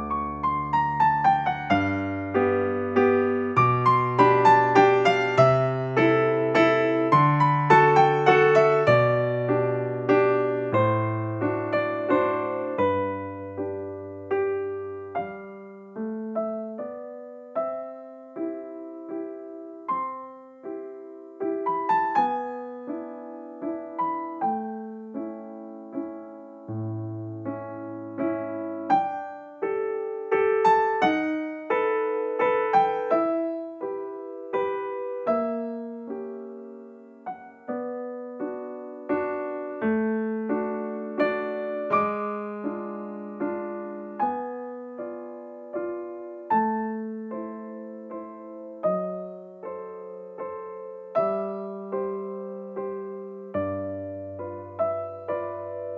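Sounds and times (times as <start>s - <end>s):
gentle piano music: 0.0s - 55.9s.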